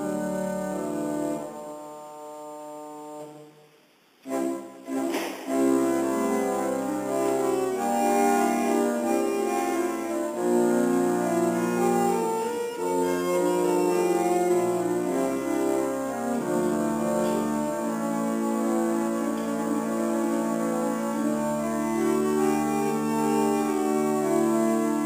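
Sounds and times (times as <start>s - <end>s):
pipe organ chords: 0.0s - 3.5s, 4.2s - 25.0s.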